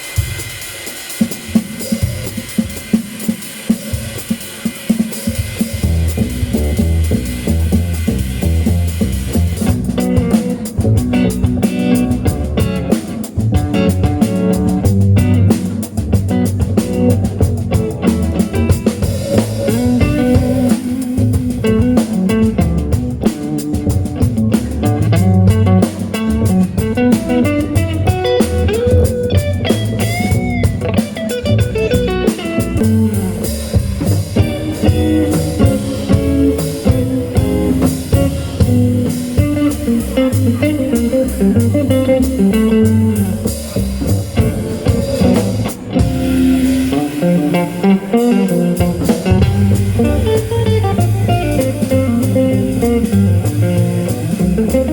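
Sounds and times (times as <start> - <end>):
drum kit beat: 0.0 - 54.9
electric guitar: 0.0 - 54.9
bass guitar: 5.4 - 54.9.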